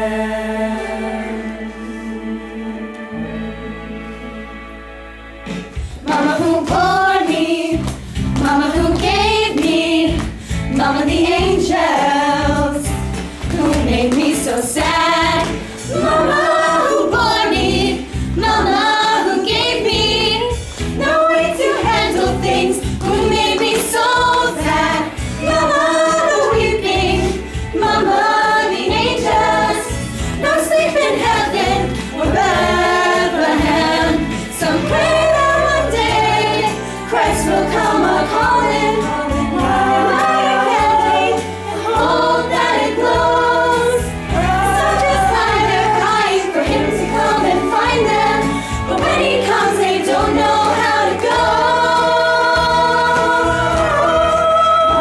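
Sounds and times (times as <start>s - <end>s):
women singing in harmony: 0.0s - 4.4s, 6.0s - 55.0s
instrumental accompaniment: 0.0s - 55.0s.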